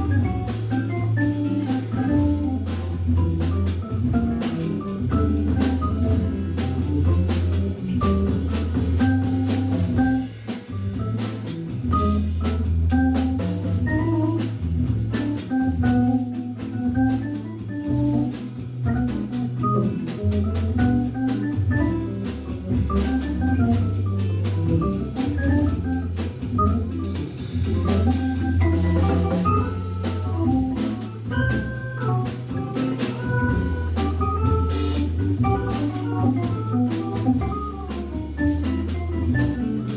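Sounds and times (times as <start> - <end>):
drum kit keeping time: 0.0 - 39.9
jazz organ playing: 0.0 - 39.9.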